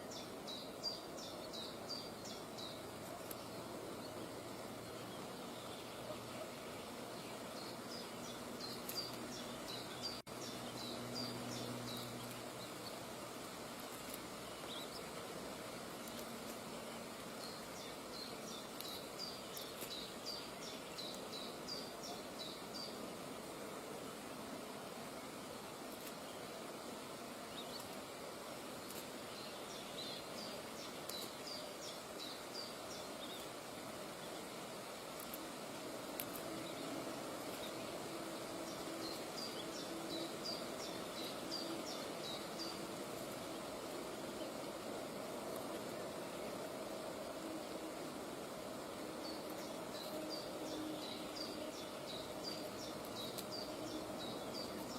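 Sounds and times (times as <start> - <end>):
outdoor background hiss: 0.0 - 54.9.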